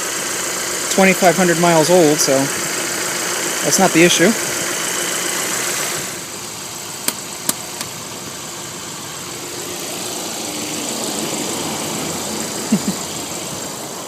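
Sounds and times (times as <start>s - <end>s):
car engine idling with tapping: 0.0s - 14.0s.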